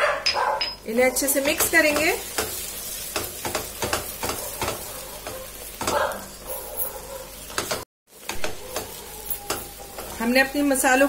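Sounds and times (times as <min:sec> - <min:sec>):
onions sizzling in oil: 0:00.8 - 0:11.0.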